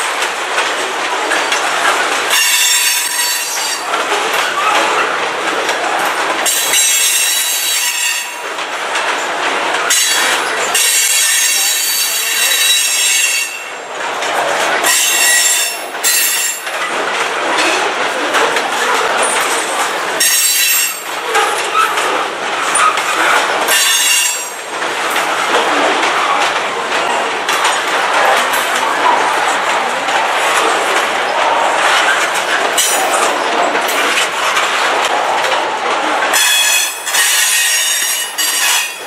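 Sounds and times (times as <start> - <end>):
freight cars rolling past: 0.0 - 39.0.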